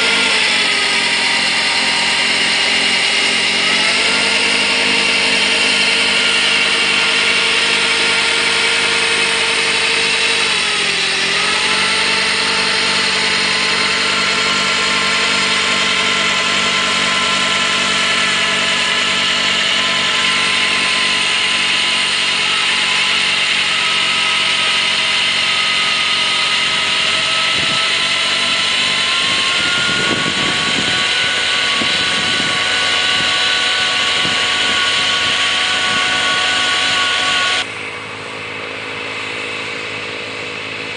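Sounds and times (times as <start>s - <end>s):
snowblower whirring and hissing: 0.0s - 40.9s
tractor diesel engine running: 0.0s - 40.9s.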